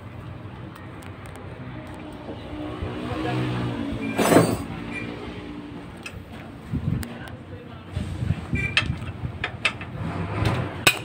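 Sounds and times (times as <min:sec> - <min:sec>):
vehicle engine hum: 0:00.0 - 0:11.0.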